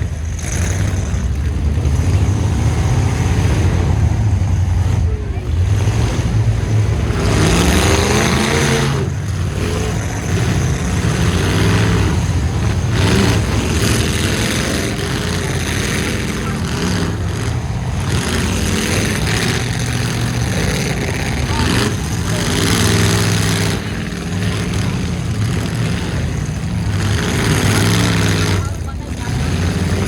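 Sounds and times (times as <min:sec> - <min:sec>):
truck engines revving: 0:00.0 - 0:30.0.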